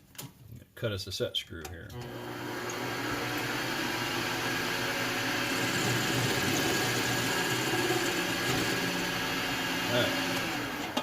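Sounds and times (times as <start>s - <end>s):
metal lathe humming: 2.0s - 11.0s.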